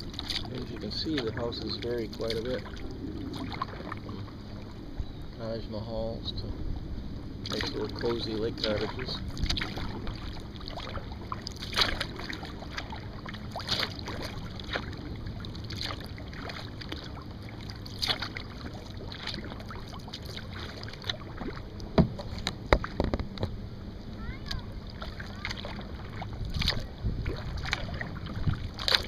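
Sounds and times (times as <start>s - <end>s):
paddle splashing in water: 0.0s - 4.9s, 7.4s - 29.0s
steady low rumble: 0.0s - 29.0s.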